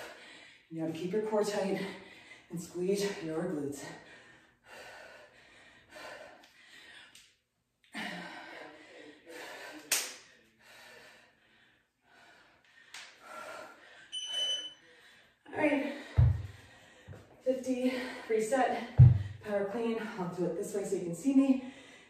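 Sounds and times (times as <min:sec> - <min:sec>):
hard breathing: 0:01.7 - 0:20.3, 0:21.6 - 0:22.0.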